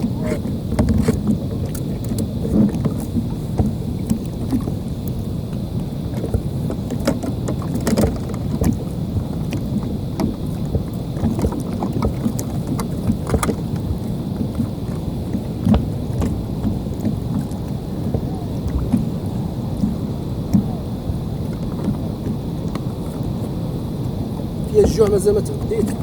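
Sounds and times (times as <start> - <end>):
gear knocking on hull: 0.0 - 23.4, 24.0 - 26.0
sea water rumbling: 0.0 - 26.0
wind: 0.0 - 26.0.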